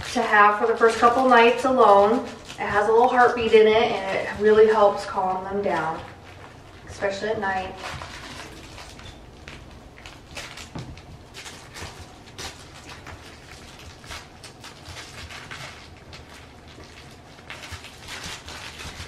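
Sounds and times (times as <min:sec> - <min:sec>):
puppies scuffling: 0:00.0 - 0:19.0
rustling: 0:00.0 - 0:19.0.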